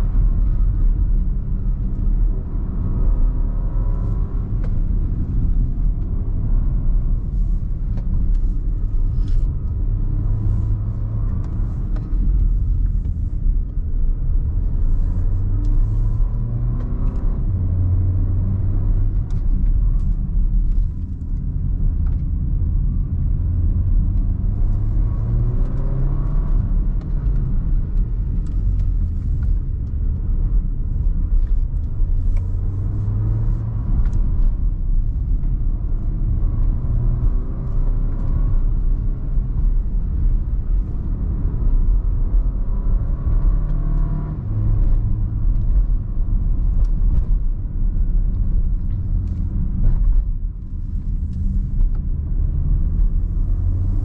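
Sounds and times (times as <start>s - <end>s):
car engine accelerating: 0.0s - 54.0s
road and tyre rumble: 0.0s - 54.0s.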